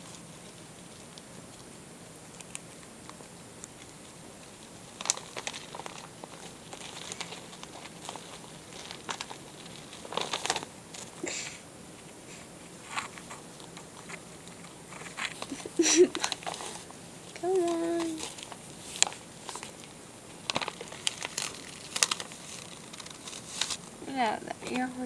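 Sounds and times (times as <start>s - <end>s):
paper bag crinkling and rustling: 0.0s - 25.0s.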